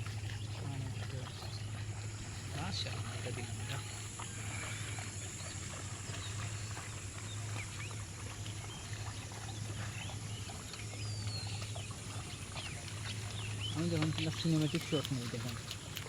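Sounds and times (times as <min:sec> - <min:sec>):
steady low hum: 0:00.0 - 0:16.0
wildlife chirps and calls: 0:00.0 - 0:16.0.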